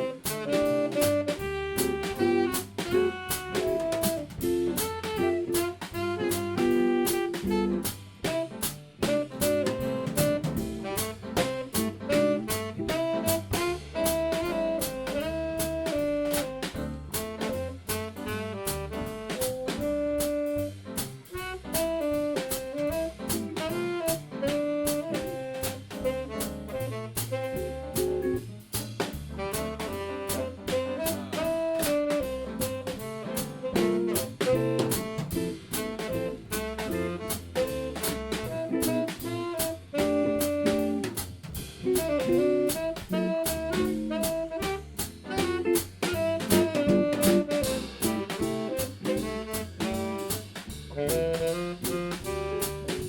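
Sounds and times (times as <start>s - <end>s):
saxophone melody: 0.0s - 28.4s, 29.3s - 41.2s, 41.8s - 53.0s
drum and cymbal strikes: 0.0s - 53.0s
jazz band playing: 0.0s - 53.0s
low bass line: 0.0s - 53.0s.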